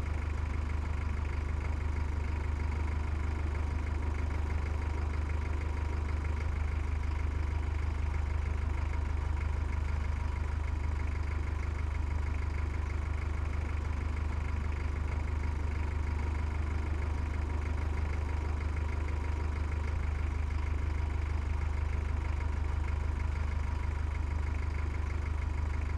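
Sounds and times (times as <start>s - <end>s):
heavy vehicle engine idling: 0.0s - 25.9s.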